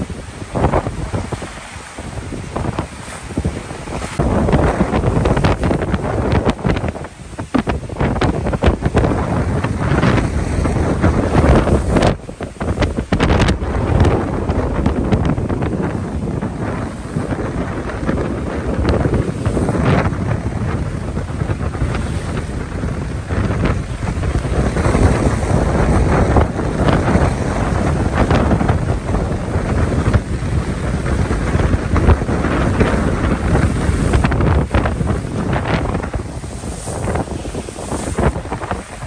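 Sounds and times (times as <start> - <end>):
strong wind buffeting microphone: 0.0 - 39.0
waves splashing against seawall: 0.0 - 39.0.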